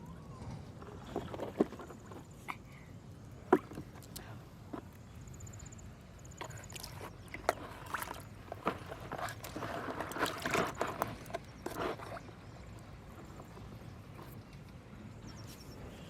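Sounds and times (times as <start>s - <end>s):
water splashing and sloshing: 0.4s - 2.6s, 3.4s - 5.5s, 6.2s - 15.0s.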